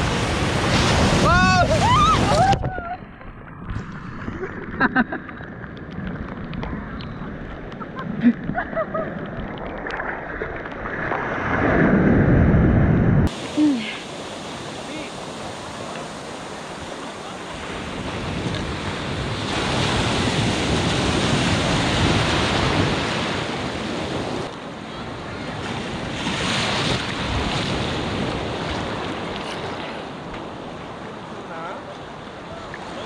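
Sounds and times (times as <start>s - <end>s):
sea surf washing over sand: 0.0s - 3.0s, 3.8s - 33.0s.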